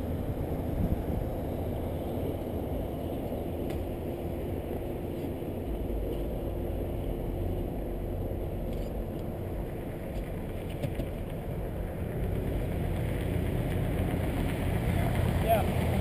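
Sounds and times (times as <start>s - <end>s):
car engine idling: 0.0s - 16.0s
faint constant hum: 0.0s - 16.0s.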